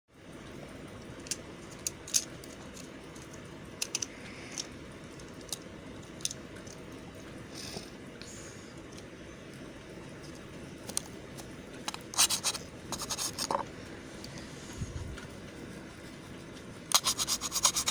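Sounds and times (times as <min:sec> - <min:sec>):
low background hum: 0:00.1 - 0:17.9.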